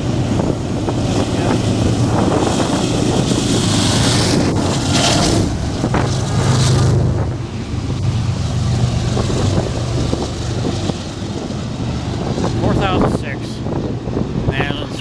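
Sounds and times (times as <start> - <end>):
low engine drone: 0.0 - 15.0
wind buffeting microphone: 0.0 - 15.0.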